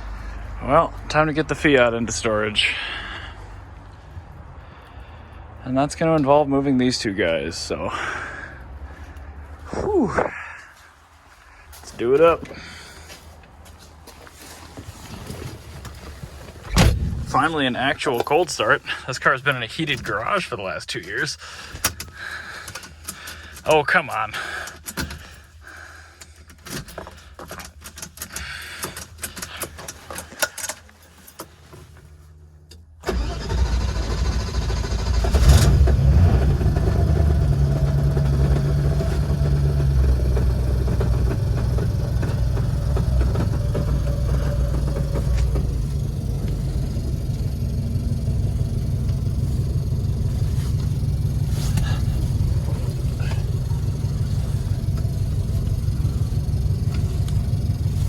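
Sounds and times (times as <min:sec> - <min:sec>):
car engine starting and running: 0:00.0 - 0:10.9, 0:14.9 - 0:25.6, 0:32.0 - 0:58.0.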